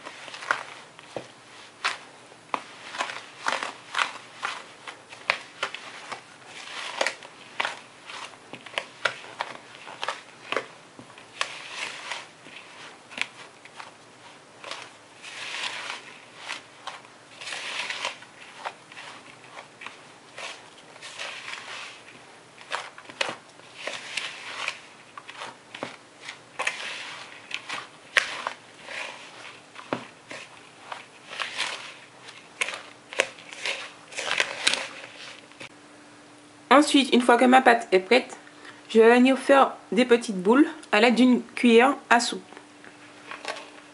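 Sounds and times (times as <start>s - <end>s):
utensil stirring dough in plastic bowl: 0.0s - 35.8s, 42.9s - 43.9s.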